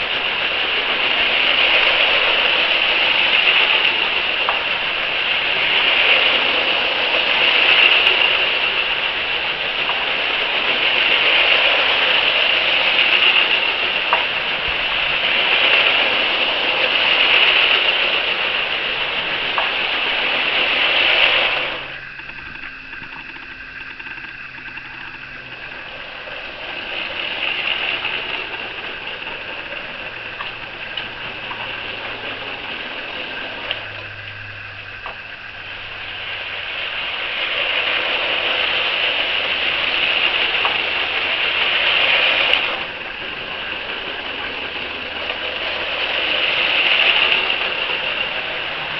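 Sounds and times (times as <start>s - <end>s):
faint clicks: 0.0s - 48.9s
toy train motors whirring: 0.0s - 48.9s.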